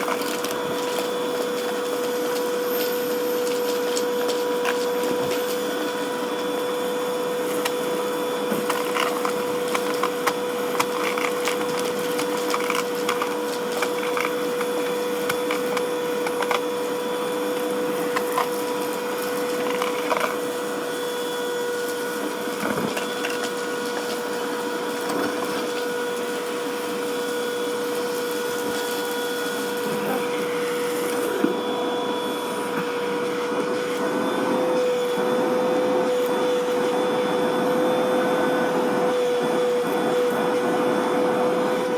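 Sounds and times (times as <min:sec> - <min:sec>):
vacuum cleaner whine: 0:00.0 - 0:41.9.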